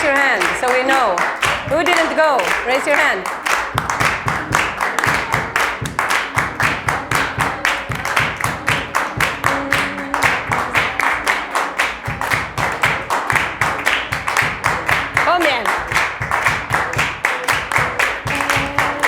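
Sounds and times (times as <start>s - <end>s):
people clapping in rhythm: 0.0s - 19.0s.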